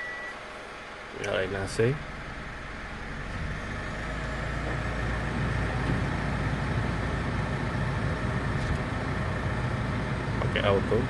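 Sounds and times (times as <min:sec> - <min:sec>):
air-conditioning fan rushing: 0:00.0 - 0:11.0
car engine idling hum: 0:00.0 - 0:11.0.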